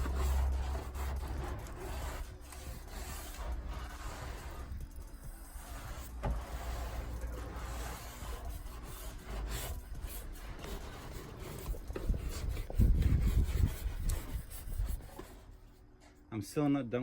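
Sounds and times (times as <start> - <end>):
stiff brush scrubbing floor: 0.0 - 15.6.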